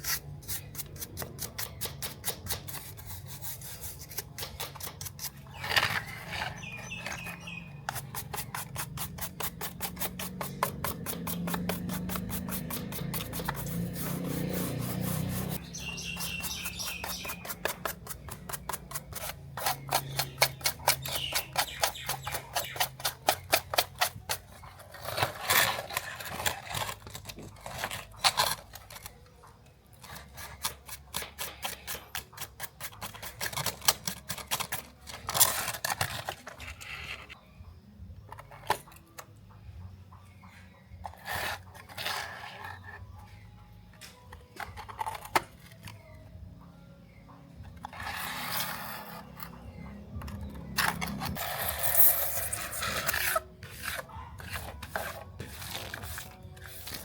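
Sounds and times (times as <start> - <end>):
hand tool scraping toy car: 0.0 - 29.2, 29.9 - 37.4, 41.0 - 43.2, 47.7 - 57.0.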